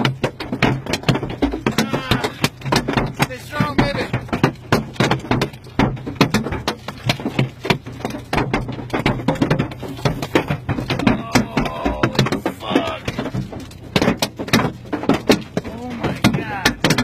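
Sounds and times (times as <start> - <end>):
hail hitting car windshield: 0.0 - 17.0.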